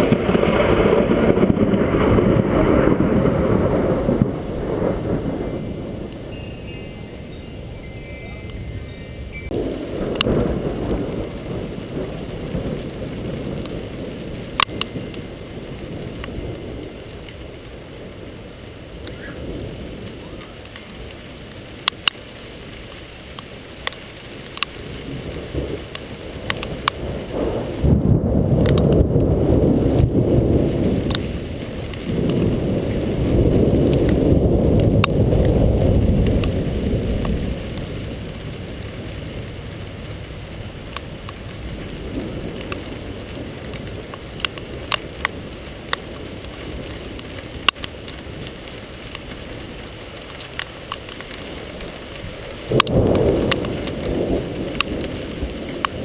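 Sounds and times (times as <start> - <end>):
rolling thunder: 0.0 - 7.8, 8.5 - 21.3, 23.8 - 49.7, 51.2 - 56.0
rain falling: 0.0 - 56.0.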